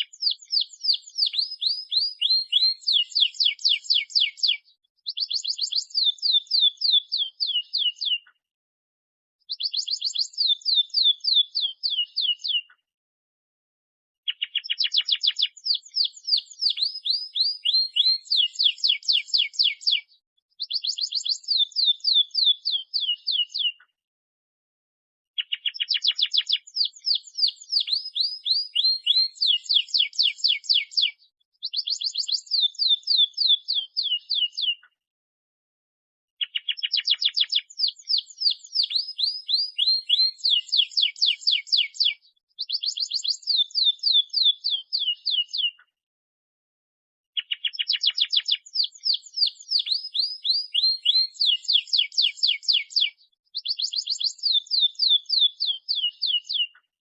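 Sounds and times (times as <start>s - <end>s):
canary singing trills: 0.0s - 8.4s, 9.4s - 12.8s, 14.3s - 23.9s, 25.4s - 34.9s, 36.4s - 45.9s, 47.4s - 56.9s.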